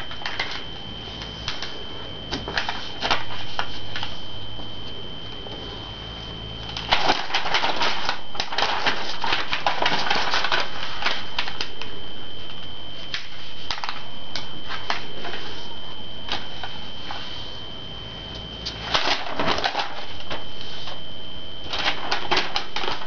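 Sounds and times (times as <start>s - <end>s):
paper crackling as it is folded: 0.0s - 4.8s, 6.5s - 17.6s, 18.4s - 23.0s
thin steady high tone: 0.0s - 22.1s.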